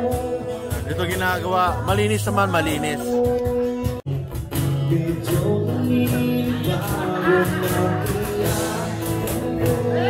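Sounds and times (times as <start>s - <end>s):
acoustic guitars: 0.0s - 10.0s
person singing: 0.0s - 10.0s.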